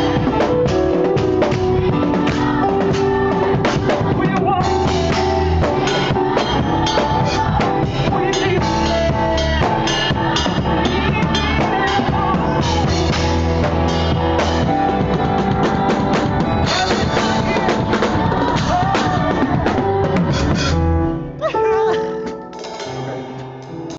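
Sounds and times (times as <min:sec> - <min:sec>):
drum kit played fast: 0:00.0 - 0:23.9
sustained band chords: 0:00.0 - 0:23.9.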